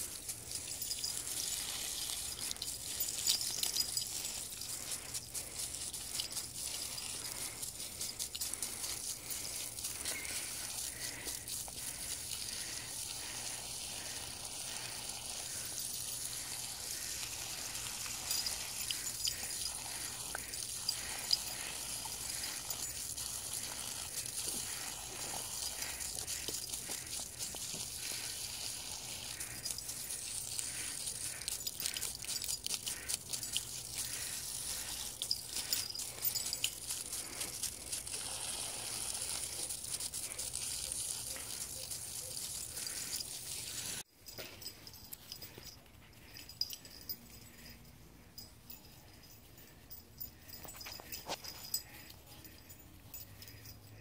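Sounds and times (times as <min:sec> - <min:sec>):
hose water splattering on grass: 0:00.0 - 0:44.1.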